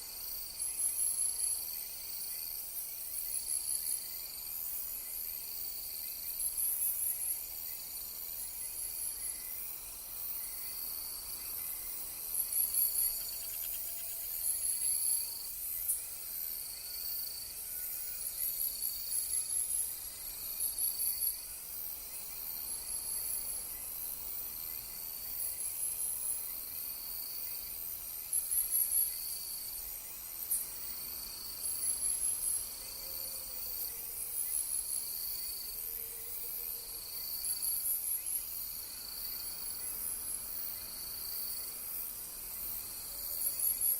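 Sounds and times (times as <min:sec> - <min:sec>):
high-pitched insect hiss: 0:00.0 - 0:43.9
insects chirping in bursts: 0:00.0 - 0:43.9.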